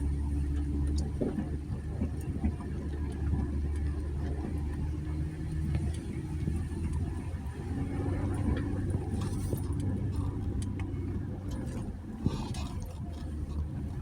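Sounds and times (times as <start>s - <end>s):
truck engine at low speed: 0.0s - 14.0s.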